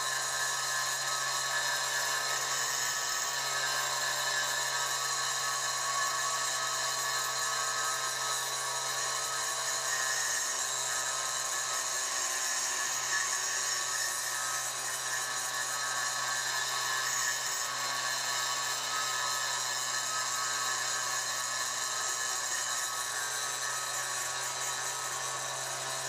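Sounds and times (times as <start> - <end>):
rotary grinder whining: 0.0 - 26.0.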